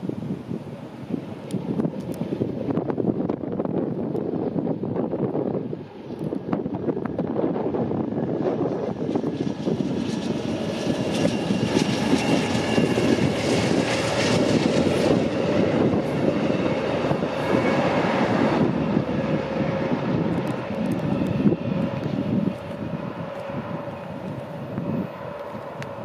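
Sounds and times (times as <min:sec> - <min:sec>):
diesel train passing: 0:00.0 - 0:26.0.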